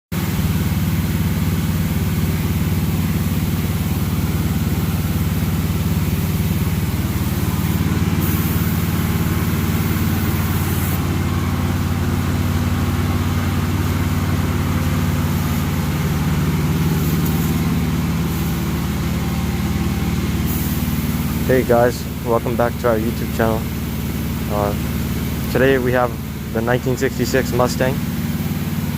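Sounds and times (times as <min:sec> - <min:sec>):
engine idling: 0:00.2 - 0:28.9.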